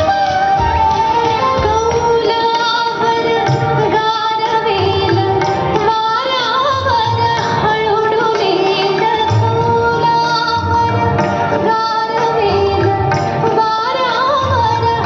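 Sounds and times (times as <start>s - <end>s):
instrumental accompaniment: 0.0s - 15.0s
woman singing: 1.1s - 15.0s.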